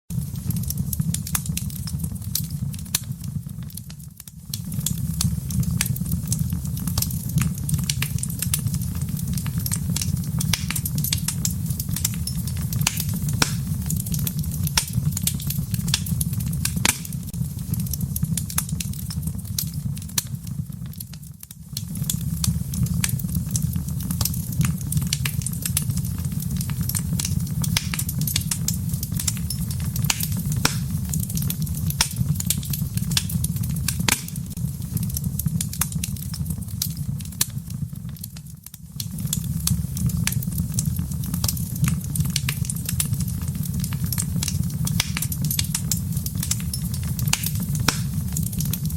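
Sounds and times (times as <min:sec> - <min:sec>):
low fire rumble: 0:00.1 - 0:48.9
wood fire crackling and popping: 0:00.1 - 0:48.9.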